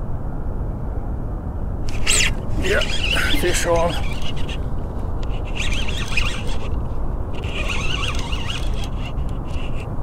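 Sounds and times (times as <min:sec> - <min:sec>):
fishing reel squeaky whir: 0:01.9 - 0:10.0.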